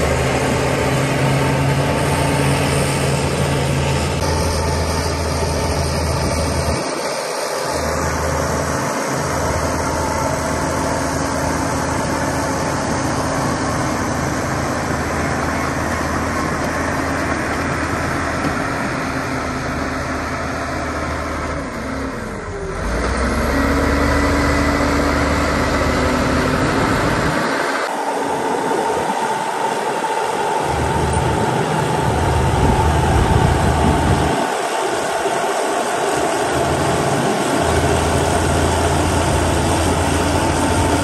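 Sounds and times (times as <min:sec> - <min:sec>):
diesel engine of heavy machinery: 0:00.0 - 0:41.0.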